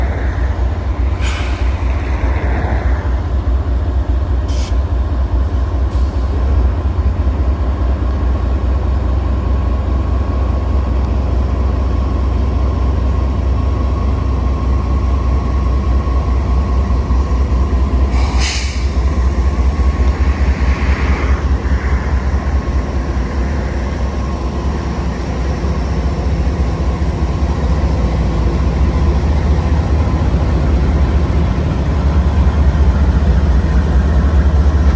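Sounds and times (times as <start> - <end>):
freight train rumbling: 0.0 - 34.9.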